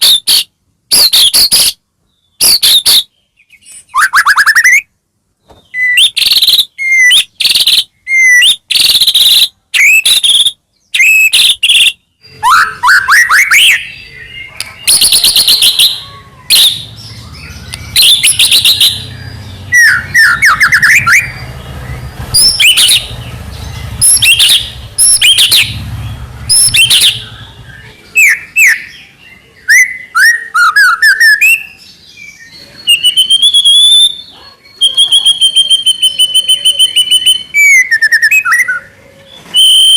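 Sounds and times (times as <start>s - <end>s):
bird singing whistled song: 0.0s - 4.9s, 5.6s - 39.9s.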